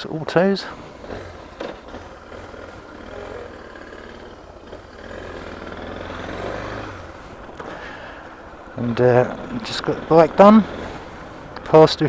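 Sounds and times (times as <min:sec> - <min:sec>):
motorcycle engine running: 0:00.6 - 0:12.0.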